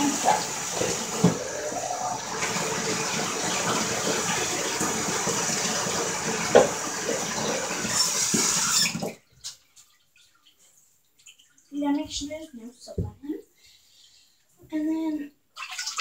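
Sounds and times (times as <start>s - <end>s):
shower water running into bathtub: 0.0s - 13.0s, 15.6s - 16.0s.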